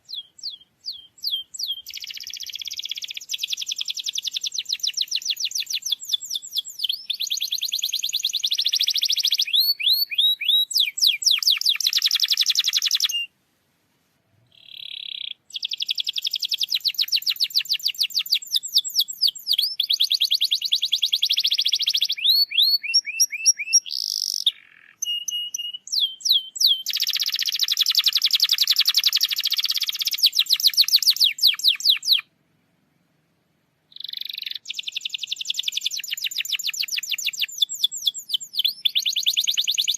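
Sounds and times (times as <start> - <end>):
canary singing trills: 0.0 - 13.3, 14.5 - 32.3, 33.9 - 39.9.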